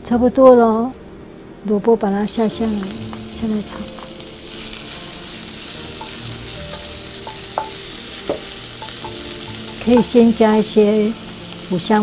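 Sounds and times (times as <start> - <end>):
food sizzling in hot oil: 2.0 - 12.0.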